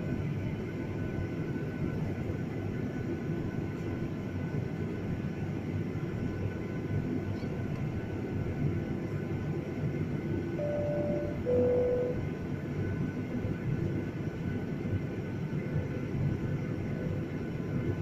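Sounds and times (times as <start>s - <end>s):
faint steady whine: 0.0s - 18.0s
jet engine cabin rumble: 0.0s - 18.0s.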